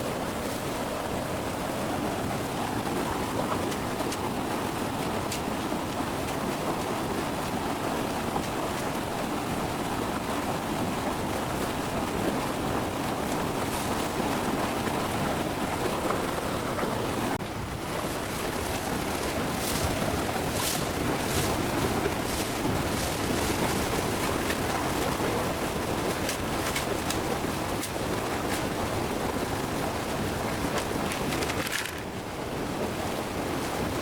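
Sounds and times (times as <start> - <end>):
stream flowing: 0.0 - 34.0.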